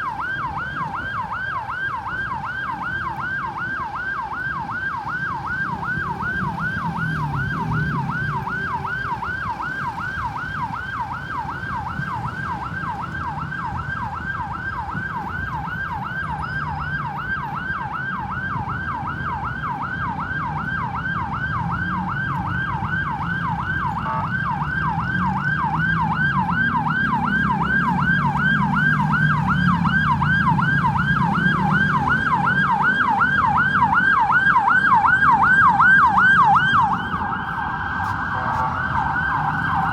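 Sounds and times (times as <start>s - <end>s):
ambulance siren yelping: 0.0s - 39.9s
road and engine rumble: 0.0s - 39.9s.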